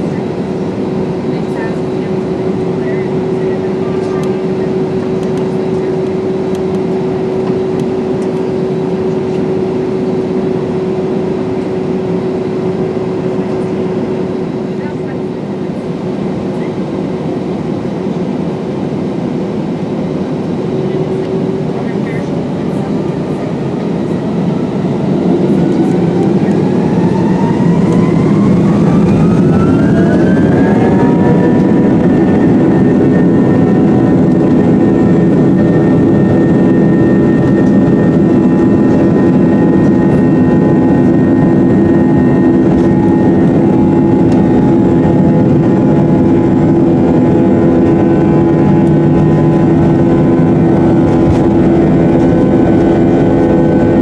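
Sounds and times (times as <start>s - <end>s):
jet engines spooling up: 0.1s - 54.0s.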